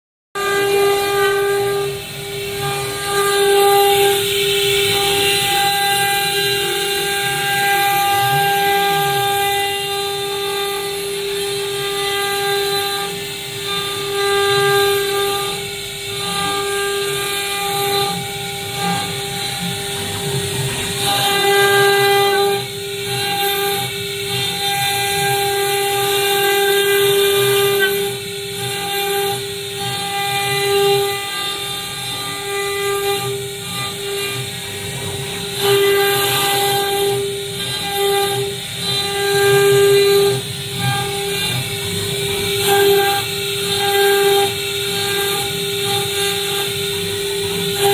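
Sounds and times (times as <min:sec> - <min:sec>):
router spindle whining: 0:00.3 - 0:47.9
bit cutting wet stone: 0:00.4 - 0:47.9.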